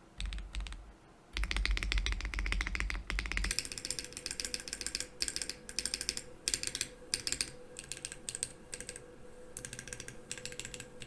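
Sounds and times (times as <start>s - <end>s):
mechanical keyboard typing: 0.2s - 0.8s, 1.4s - 9.0s, 9.6s - 11.0s.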